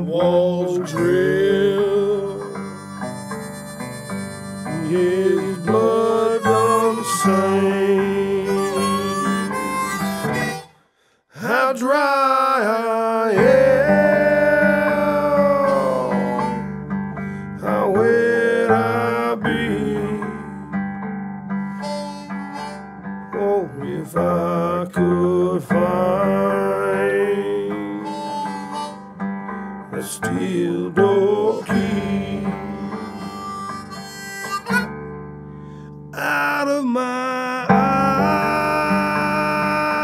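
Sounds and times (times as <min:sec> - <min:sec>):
instrumental song with guitar: 0:00.0 - 0:10.8, 0:13.4 - 0:36.2, 0:37.7 - 0:40.0.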